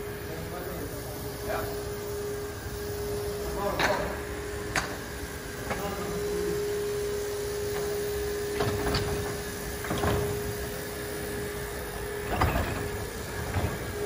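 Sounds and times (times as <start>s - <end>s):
partition wall rolling on track: 0.0s - 14.0s
steady hum: 0.0s - 14.0s.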